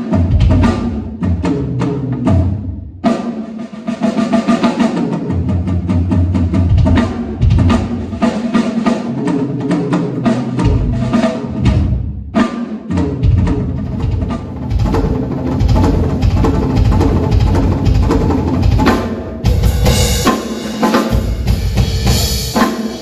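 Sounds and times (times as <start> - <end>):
drum kit playing: 0.0 - 23.0.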